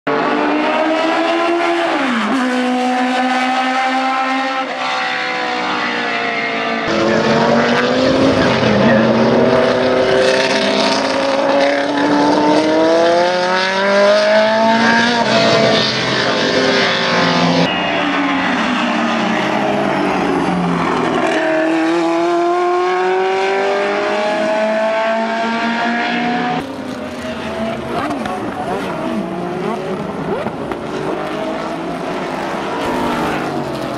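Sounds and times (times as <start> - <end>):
race engine at full throttle: 0.1 - 33.9.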